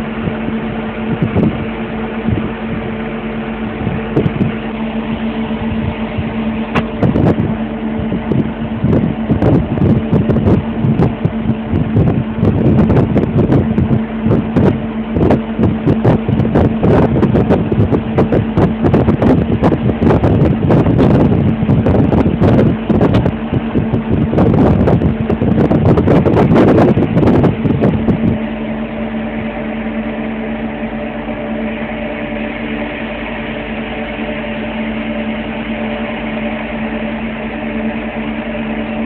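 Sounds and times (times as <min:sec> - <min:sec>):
heavy vehicle engine droning: 0:00.0 - 0:39.0.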